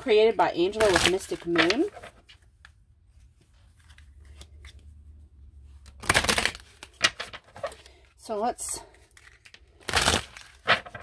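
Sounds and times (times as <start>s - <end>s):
cards rustling: 0.6s - 5.0s, 5.7s - 8.1s, 8.8s - 11.0s.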